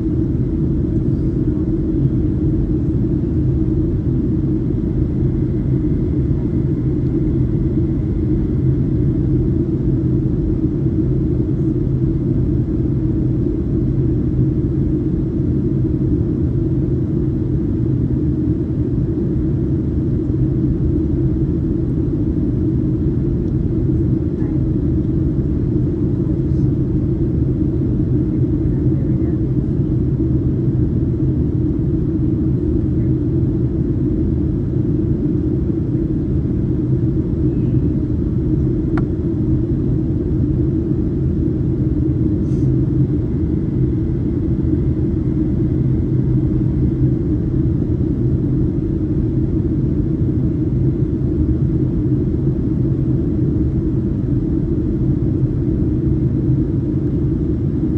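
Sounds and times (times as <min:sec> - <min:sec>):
aircraft cabin engine drone: 0:00.0 - 0:57.9.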